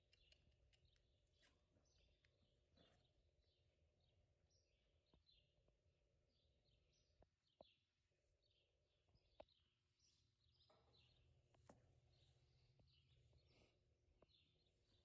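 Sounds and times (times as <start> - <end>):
quiet bird chirping: 0.0 - 15.0.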